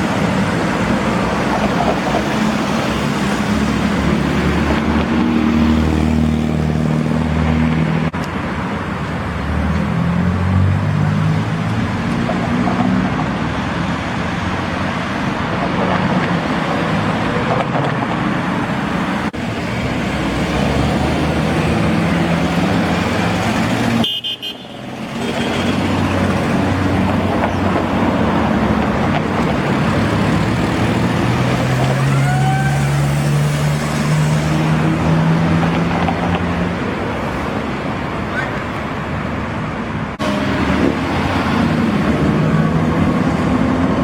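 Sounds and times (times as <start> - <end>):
road noise: 0.0 - 44.0.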